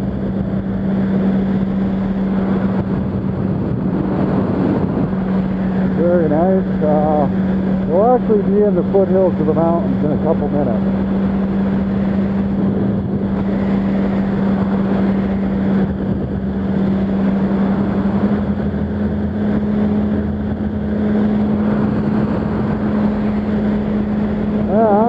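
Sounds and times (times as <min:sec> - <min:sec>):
motorcycle engine cruising: 0:00.0 - 0:25.0
riding noise rush: 0:00.0 - 0:25.0.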